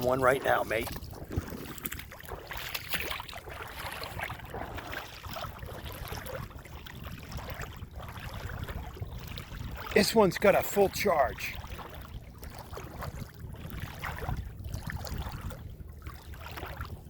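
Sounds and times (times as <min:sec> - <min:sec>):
shallow seawater splashing: 0:00.0 - 0:17.0.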